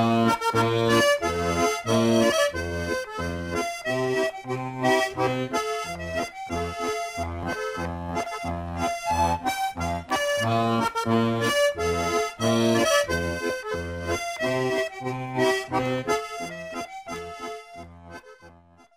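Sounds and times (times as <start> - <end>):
accordion music: 0.0 - 18.9.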